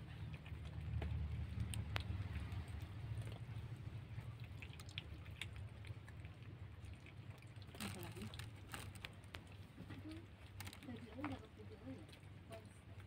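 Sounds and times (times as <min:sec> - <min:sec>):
cats chewing wet food: 0:00.0 - 0:13.0
low steady rumble: 0:00.0 - 0:13.0.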